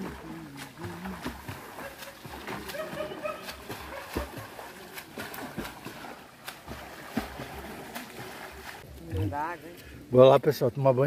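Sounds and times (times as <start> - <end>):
water splashing from swimming: 0.0 - 10.1.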